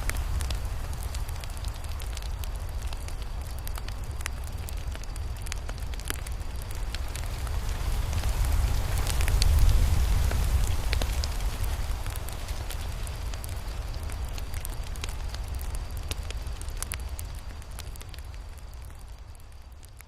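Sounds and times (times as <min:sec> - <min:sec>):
low rumble of campfire: 0:00.0 - 0:20.0
wood crackling and popping: 0:00.0 - 0:20.0.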